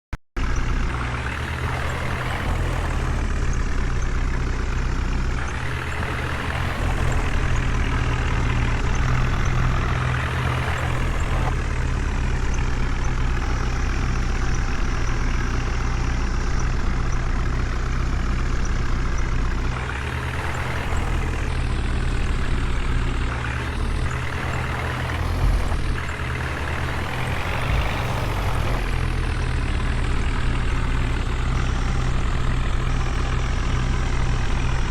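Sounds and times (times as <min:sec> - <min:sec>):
diesel engine revving: 0:00.4 - 0:34.9.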